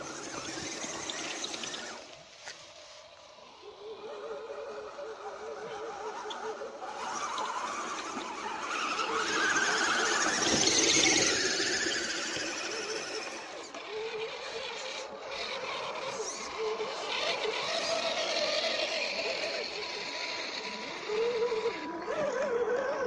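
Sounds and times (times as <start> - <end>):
toy truck electric motor whining: 0.0 - 23.0.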